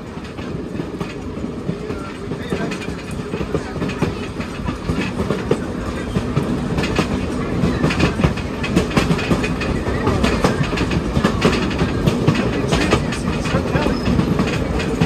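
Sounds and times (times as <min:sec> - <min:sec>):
train wheel clicks and knocks: 0:00.0 - 0:15.0
train wheels rumbling on track: 0:00.0 - 0:15.0.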